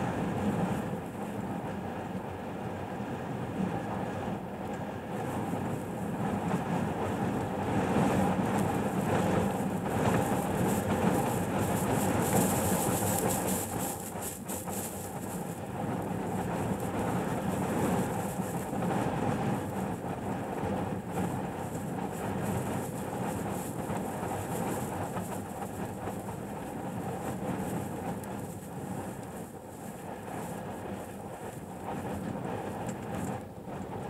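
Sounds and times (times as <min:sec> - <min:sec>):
strong wind buffeting truck: 0:00.0 - 0:34.0.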